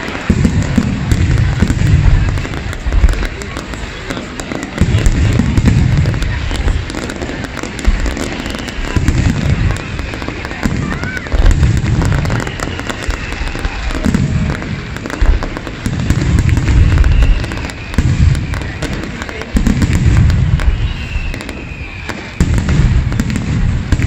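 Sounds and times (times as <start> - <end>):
firework booms: 0.0 - 24.0
firework crackling: 0.0 - 24.0.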